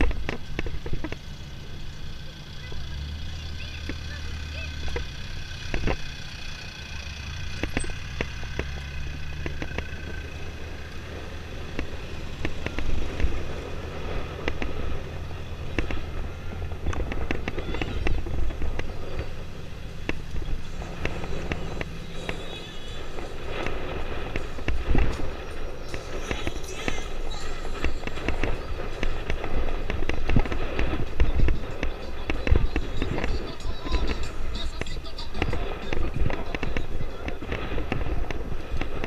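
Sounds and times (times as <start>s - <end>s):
motorcycle engine running: 0.0s - 39.0s
short sharp crackles: 7.5s - 39.0s.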